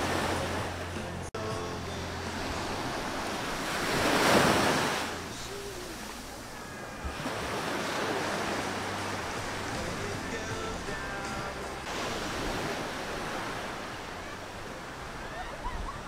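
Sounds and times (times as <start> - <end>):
surf breaking on a beach: 0.0 - 16.0.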